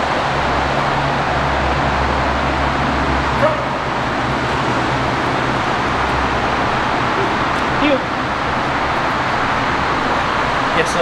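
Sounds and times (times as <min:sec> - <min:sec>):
steady hum: 0:00.0 - 0:11.0
traffic noise: 0:00.0 - 0:11.0.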